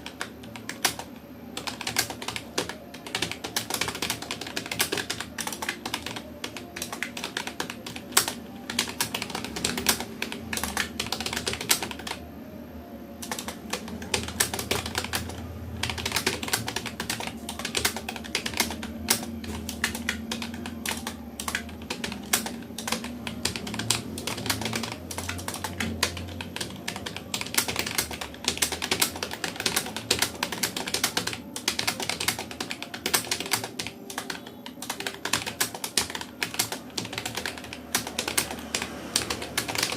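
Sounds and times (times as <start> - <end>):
computer keyboard typing: 0.0 - 12.3, 13.2 - 39.9.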